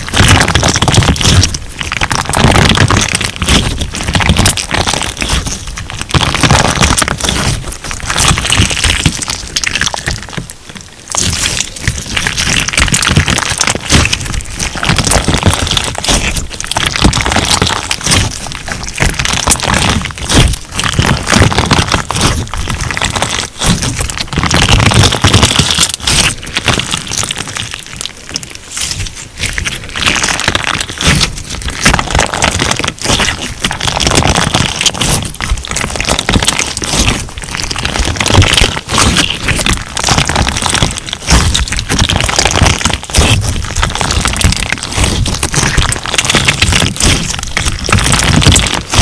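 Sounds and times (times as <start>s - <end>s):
crunch slime crackling and popping: 0.0s - 49.0s.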